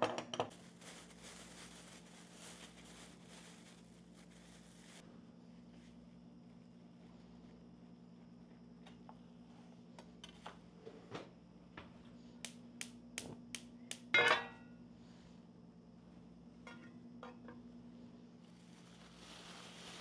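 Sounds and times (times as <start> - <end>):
steady low hum: 0.4 - 19.9.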